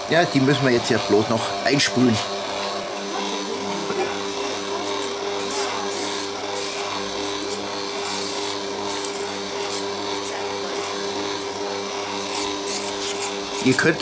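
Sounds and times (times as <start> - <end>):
stand mixer motor running: 0.0 - 14.0.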